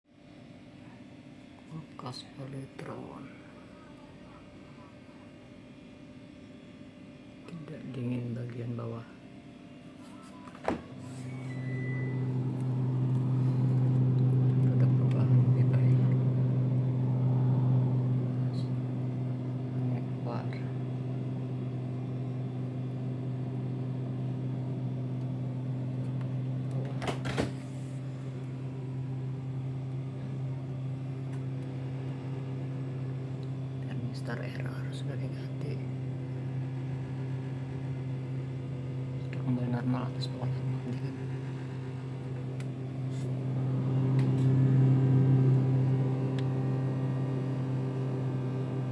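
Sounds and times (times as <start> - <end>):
refrigerator compressor hum: 0.2 - 48.9.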